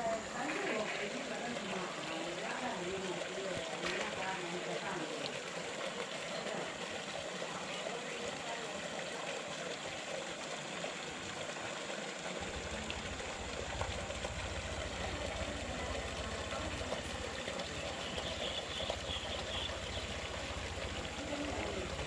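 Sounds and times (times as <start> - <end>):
trickling water: 0.0 - 22.0.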